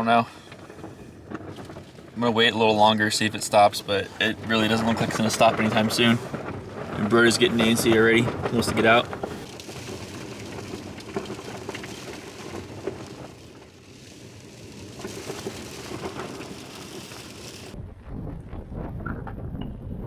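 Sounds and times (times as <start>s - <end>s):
rain on vehicle roof: 0.0s - 17.8s
wind buffeting microphone: 0.0s - 20.0s.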